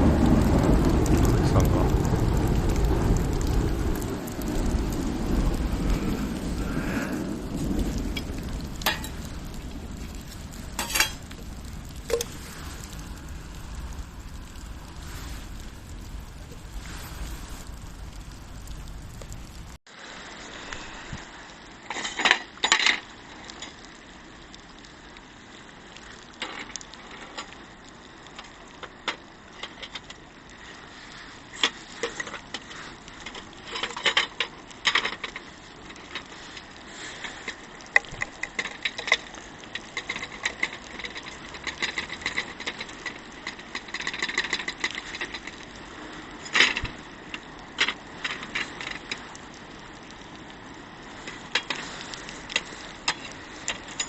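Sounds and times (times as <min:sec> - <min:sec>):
wood fire crackling and popping: 0:00.0 - 0:19.9, 0:20.5 - 0:54.0
rain hissing: 0:00.0 - 0:54.0.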